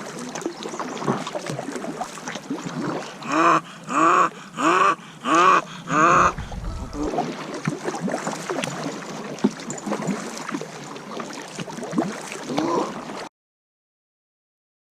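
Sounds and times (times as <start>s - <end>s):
water gurgling around a kayak: 0.0s - 13.3s.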